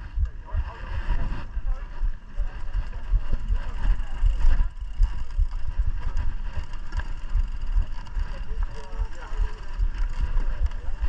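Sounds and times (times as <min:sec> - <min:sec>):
bike rattling over rough ground: 0:00.0 - 0:11.0
wind rumble on microphone: 0:00.0 - 0:11.0.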